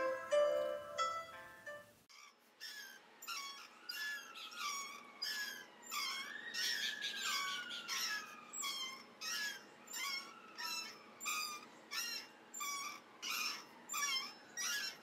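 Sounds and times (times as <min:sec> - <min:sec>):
swings squeaking: 0:02.1 - 0:15.0.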